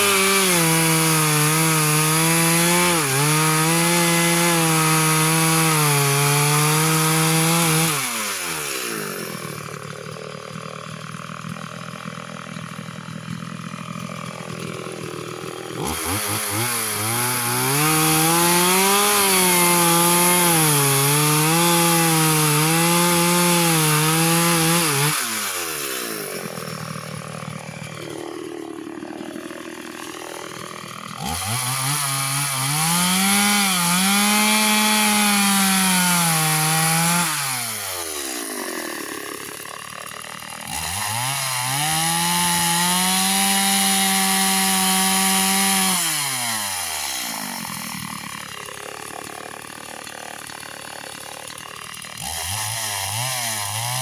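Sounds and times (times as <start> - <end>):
chainsaw cutting wood: 0.0 - 54.0
chainsaw idling: 0.0 - 54.0.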